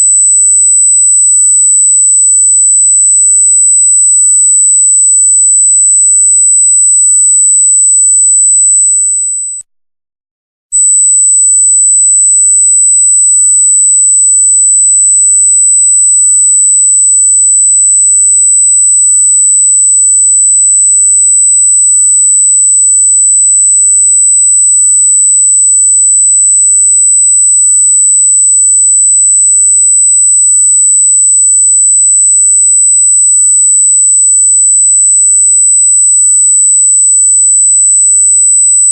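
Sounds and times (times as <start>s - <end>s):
high-pitched electronic sine tone: 0.0s - 9.7s, 10.8s - 38.9s.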